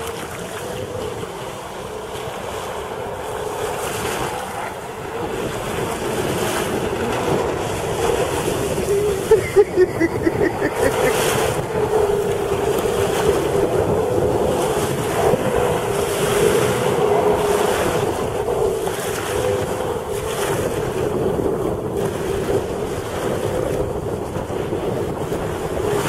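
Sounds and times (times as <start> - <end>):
distant jet ski engine drone: 0.0 - 26.0
wind buffeting microphone: 0.0 - 26.0.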